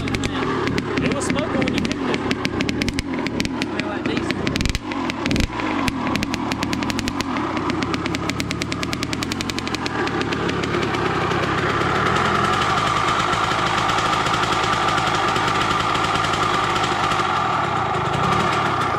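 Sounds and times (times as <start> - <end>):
two-stroke engine running: 0.0 - 18.9.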